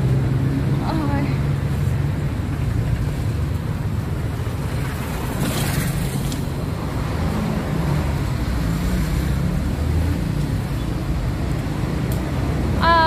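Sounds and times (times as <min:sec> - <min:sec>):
traffic rumble of passing cars: 0:00.0 - 0:13.0.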